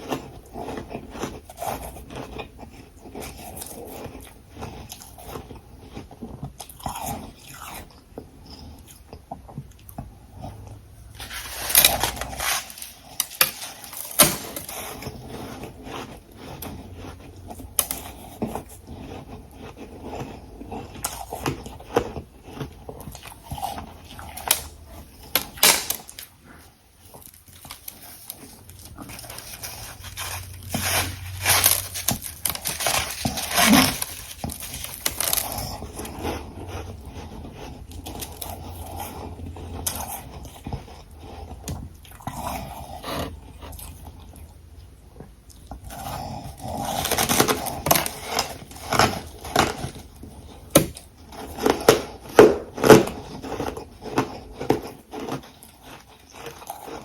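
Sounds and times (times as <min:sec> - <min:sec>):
crunching and chewing ice: 0:00.0 - 0:57.0.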